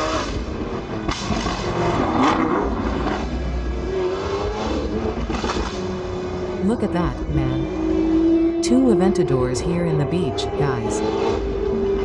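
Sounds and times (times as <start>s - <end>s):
sports car engine revving: 0.0s - 12.0s.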